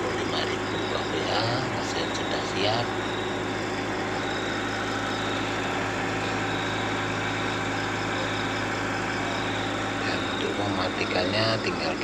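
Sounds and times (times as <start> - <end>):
diesel generator running: 0.0 - 12.0.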